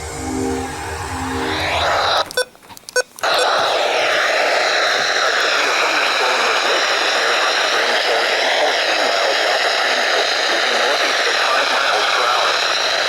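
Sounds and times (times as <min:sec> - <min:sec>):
radio static hiss: 0:00.4 - 0:02.6, 0:03.2 - 0:13.0.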